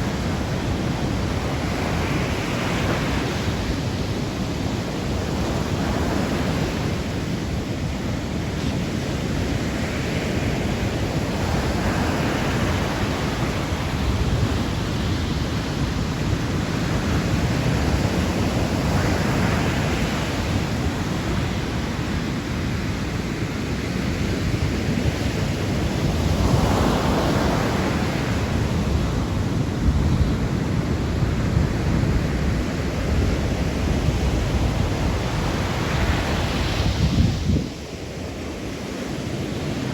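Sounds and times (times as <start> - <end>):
sea waves breaking on shore: 0.0 - 39.9
wind buffeting microphone: 0.0 - 39.9.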